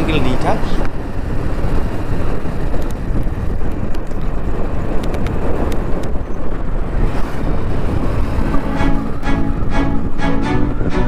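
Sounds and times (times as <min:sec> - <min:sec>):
vehicle running: 0:00.0 - 0:11.0
wind buffeting microphone: 0:00.0 - 0:11.0.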